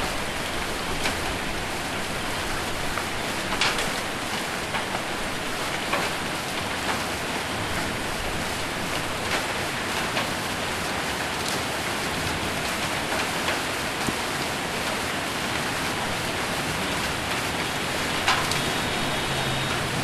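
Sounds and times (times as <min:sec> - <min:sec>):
hail hitting a roof: 0:00.0 - 0:20.0
heavy rain on a roof: 0:00.0 - 0:20.0.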